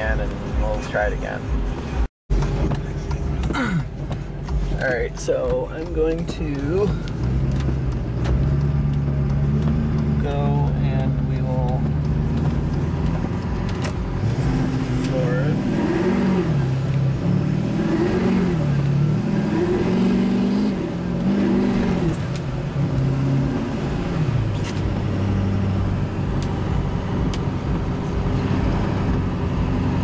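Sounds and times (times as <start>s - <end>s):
diesel pickup engine accelerating: 0.0s - 30.0s.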